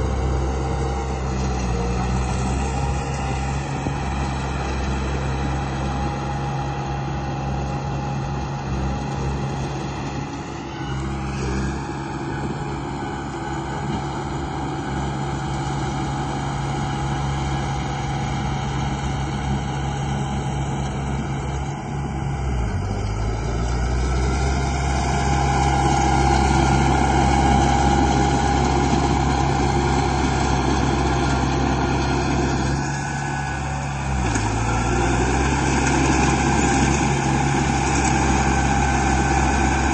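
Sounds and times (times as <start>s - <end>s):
rising motor whine: 0.0s - 39.9s.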